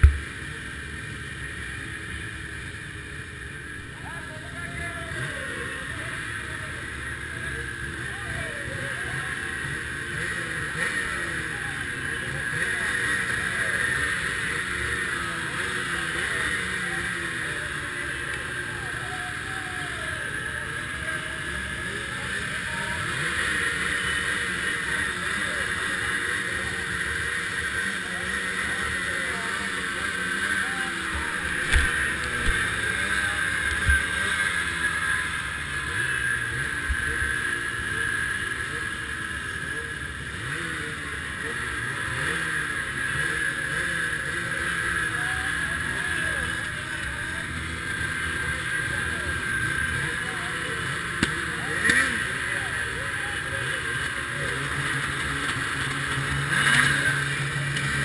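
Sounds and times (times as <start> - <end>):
snowmobile engines running: 0.0 - 58.0.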